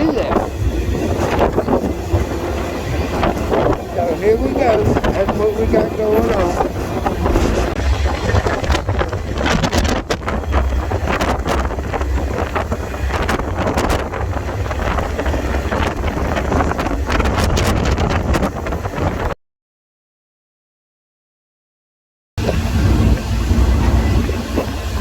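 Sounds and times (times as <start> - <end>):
heavy low rumble: 0.0 - 19.3, 22.4 - 25.0
wind buffeting microphone: 0.0 - 19.4, 22.4 - 25.0.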